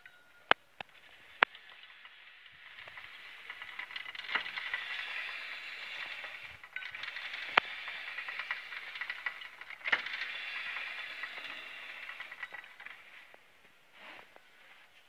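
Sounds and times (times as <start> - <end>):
metal shaper running: 0.9 - 13.5.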